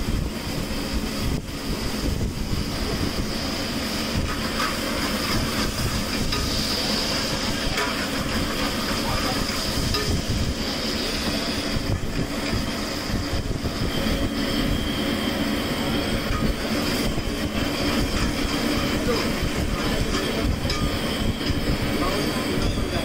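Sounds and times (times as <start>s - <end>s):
gas stove burner roaring: 0.0s - 23.0s.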